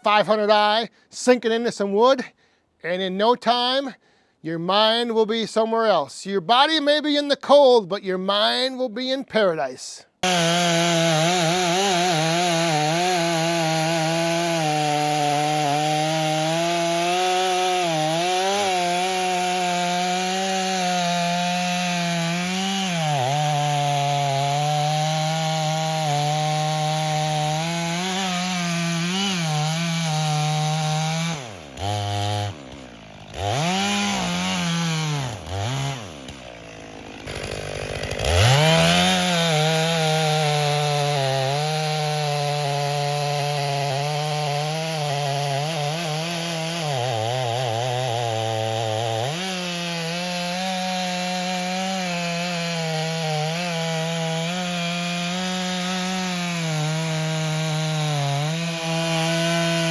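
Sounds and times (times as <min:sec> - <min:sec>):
chainsaw cutting wood: 0:10.2 - 0:59.9.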